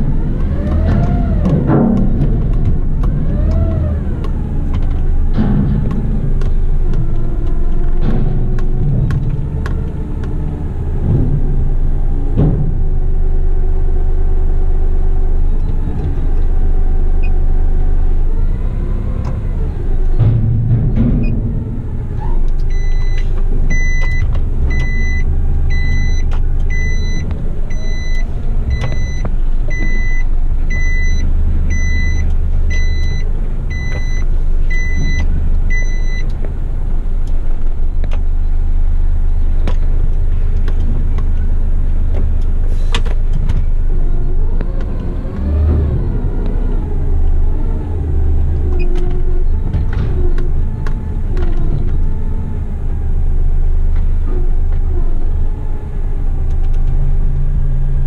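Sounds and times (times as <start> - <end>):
truck engine rumble: 0.0 - 58.0.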